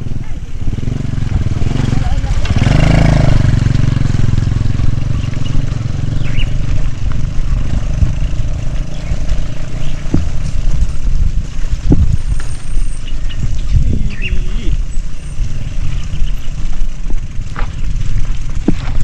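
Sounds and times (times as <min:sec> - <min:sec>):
road rumble: 0:00.0 - 0:19.0
wind buffeting microphone: 0:00.0 - 0:19.0.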